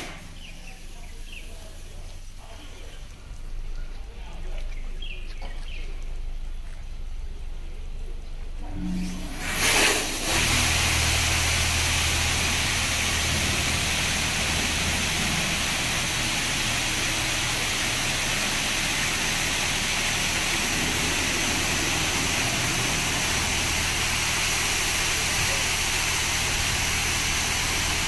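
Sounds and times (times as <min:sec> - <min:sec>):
high-pressure water spraying: 0:00.0 - 0:03.4, 0:08.8 - 0:28.0
low machine hum: 0:00.0 - 0:28.0.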